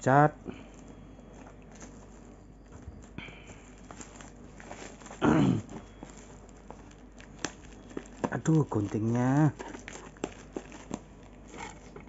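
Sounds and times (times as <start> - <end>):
plastic wrapping crinkling: 0.7 - 12.0.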